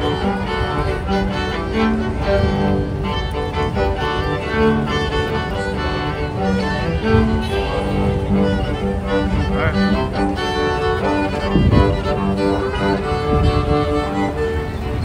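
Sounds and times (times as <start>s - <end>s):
cello sustained notes: 0.0s - 15.0s
violin melody: 0.0s - 15.0s.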